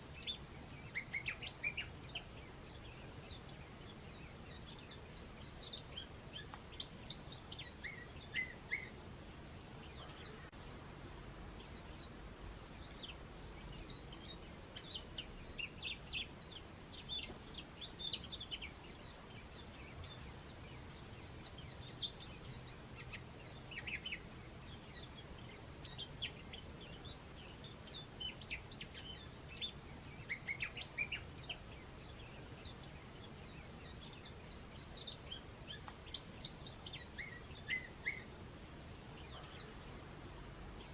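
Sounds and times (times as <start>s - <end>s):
faint low background noise: 0.0s - 40.9s
small birds chirping: 0.0s - 40.9s.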